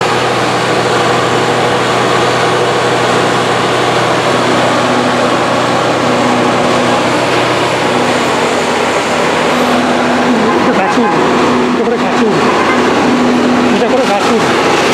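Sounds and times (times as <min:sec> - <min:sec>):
engine running steadily: 0:00.0 - 0:14.9.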